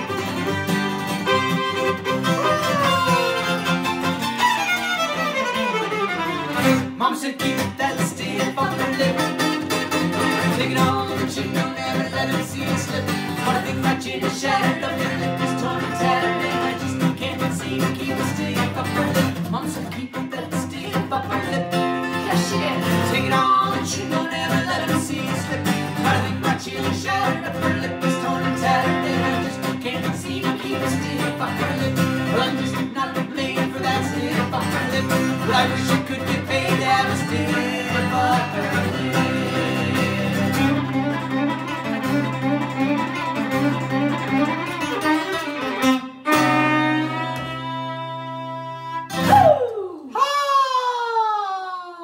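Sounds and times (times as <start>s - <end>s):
bowed fiddle: 0.0s - 7.0s, 8.3s - 19.4s, 21.5s - 49.3s
strummed acoustic guitar: 0.0s - 49.4s.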